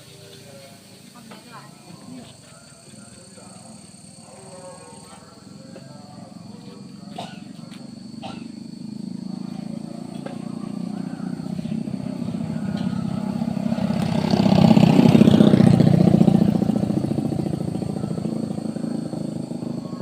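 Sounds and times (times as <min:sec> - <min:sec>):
vehicle engine passing by: 0:00.0 - 0:20.0.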